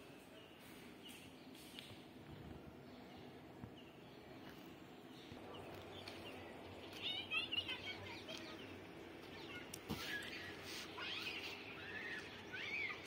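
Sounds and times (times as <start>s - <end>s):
birds chirping: 0.0s - 13.0s
faint outdoor background noise: 0.0s - 13.0s.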